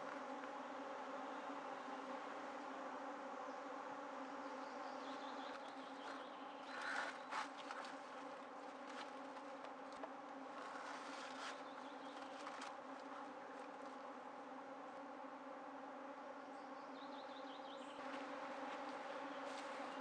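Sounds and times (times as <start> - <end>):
flying insect buzzing: 0.0 - 20.0.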